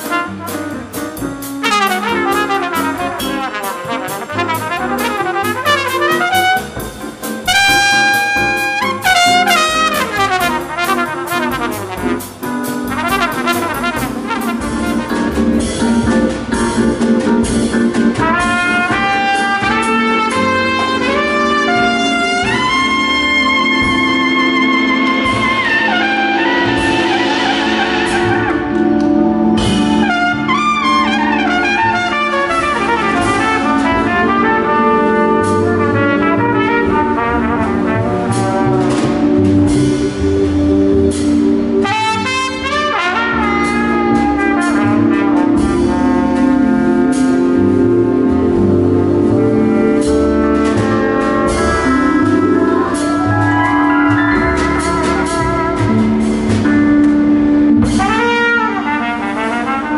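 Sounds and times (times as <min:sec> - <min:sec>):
trumpet soloing: 0:00.0 - 0:15.8, 0:18.2 - 0:40.0, 0:41.1 - 0:59.9
drum kit cymbals: 0:00.0 - 0:59.9
keyboard: 0:00.0 - 0:59.9
upright bass: 0:00.0 - 0:59.9.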